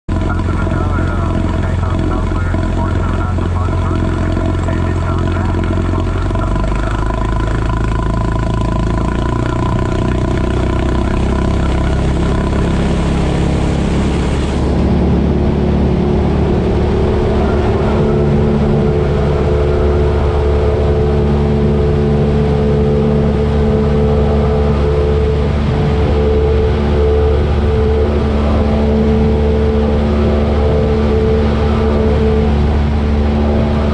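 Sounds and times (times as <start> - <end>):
light aircraft engine and propeller: 0.1 - 33.9.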